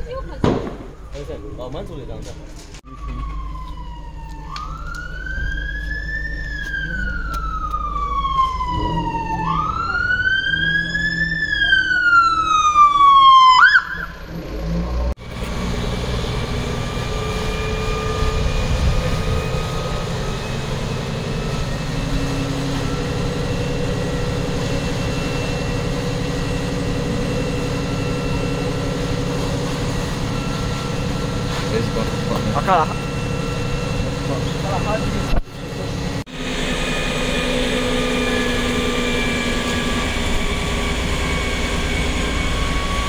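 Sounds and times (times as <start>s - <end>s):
emergency siren wailing: 0.0s - 43.0s.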